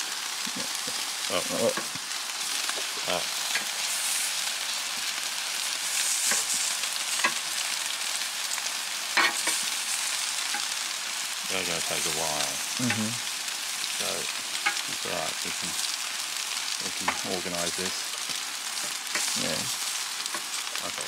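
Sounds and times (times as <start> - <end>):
sausages sizzling on grill: 0.0 - 21.0.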